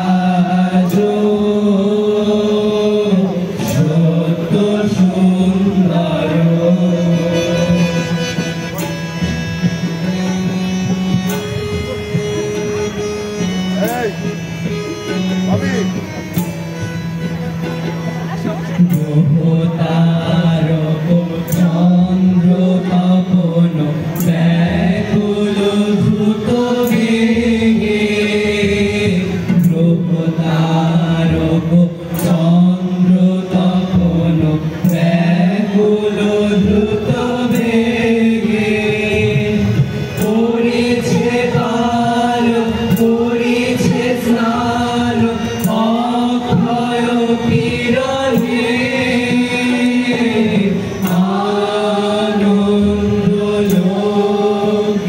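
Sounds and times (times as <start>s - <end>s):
boys singing in unison: 0.0s - 8.4s, 18.9s - 55.0s
harmonium: 0.0s - 55.0s.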